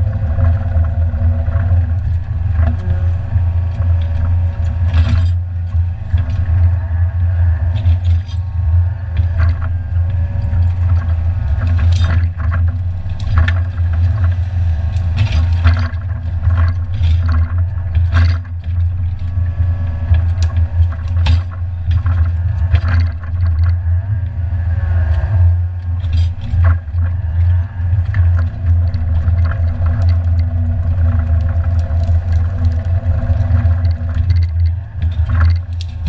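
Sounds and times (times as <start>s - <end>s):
knocks and clatter of logs: 0.0s - 24.4s, 25.0s - 36.0s
diesel engine running: 0.0s - 36.0s
faint hydraulic whine: 0.0s - 36.0s.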